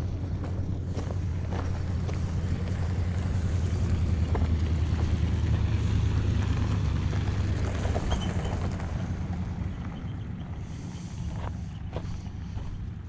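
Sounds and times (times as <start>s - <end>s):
truck driving past on gravel: 0.0s - 13.0s.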